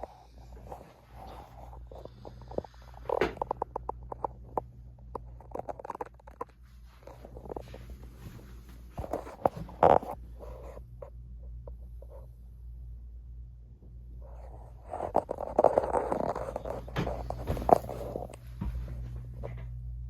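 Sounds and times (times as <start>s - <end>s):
fan motor humming: 0.0s - 20.0s.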